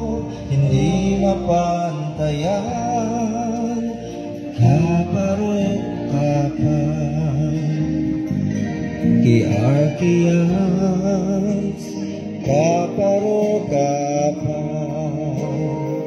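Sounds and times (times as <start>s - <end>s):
man singing into microphone: 0.0s - 16.0s
musical accompaniment: 0.0s - 16.0s.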